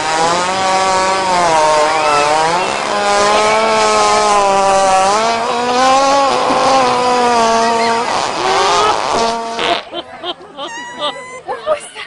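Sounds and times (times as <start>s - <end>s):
chainsaw engine running: 0.0s - 9.8s.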